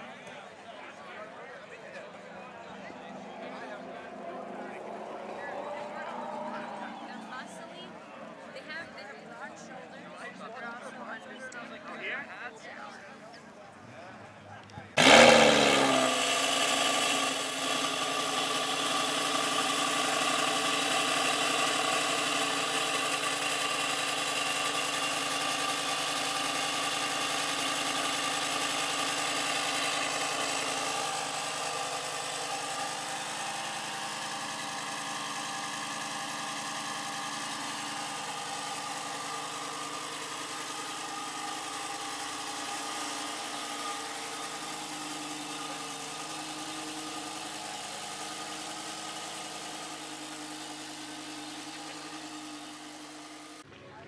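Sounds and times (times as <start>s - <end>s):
car engine idling: 1.8s - 9.2s, 14.8s - 53.6s.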